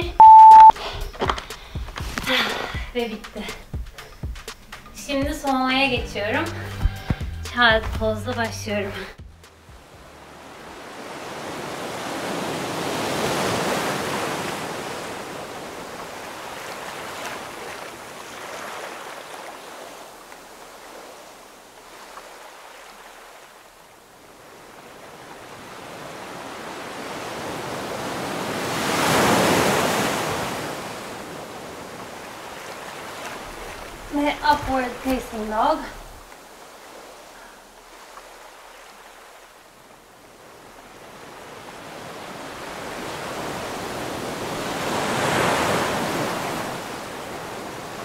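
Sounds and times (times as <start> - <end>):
ocean surf: 9.5 - 48.0.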